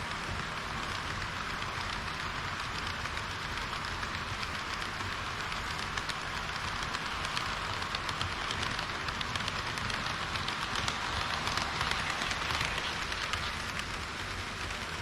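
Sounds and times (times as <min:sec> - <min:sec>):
model train running on track: 0:00.0 - 0:15.0
sharp track clicks: 0:00.0 - 0:15.0.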